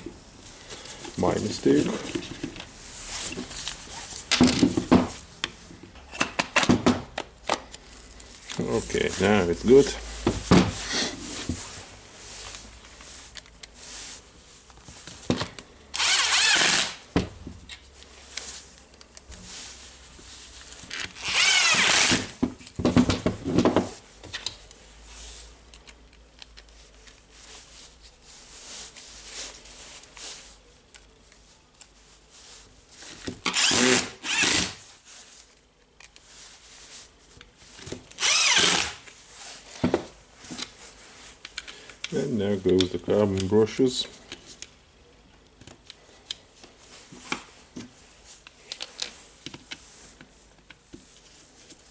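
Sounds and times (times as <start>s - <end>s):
handling of parts: 0.0s - 51.9s.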